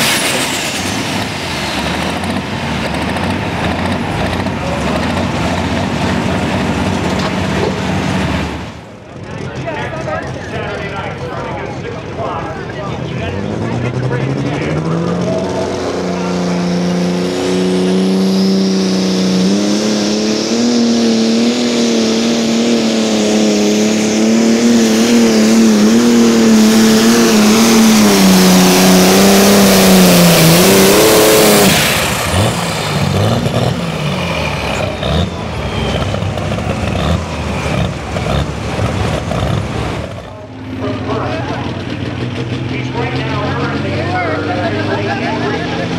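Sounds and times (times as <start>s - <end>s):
diesel tractor engine at full throttle: 0.0s - 45.9s.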